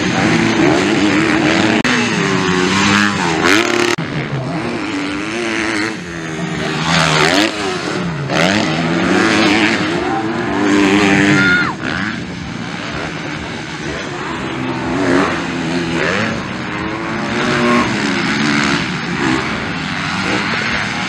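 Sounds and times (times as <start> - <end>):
motocross bikes revving past: 0.0 - 21.0.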